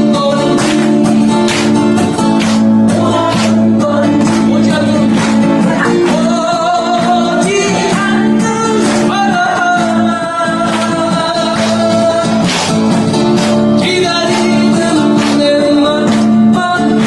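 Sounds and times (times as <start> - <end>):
acoustic guitar strumming: 0.0 - 17.0
person singing: 0.0 - 17.0.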